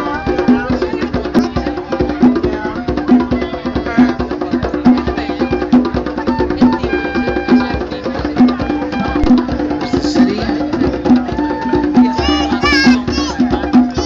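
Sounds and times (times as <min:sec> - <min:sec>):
percussive music with steady beat: 0:00.0 - 0:14.0.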